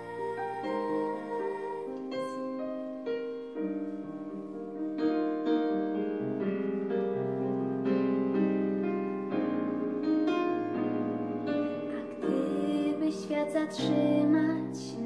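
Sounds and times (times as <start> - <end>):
piano backing track: 0.0 - 15.0.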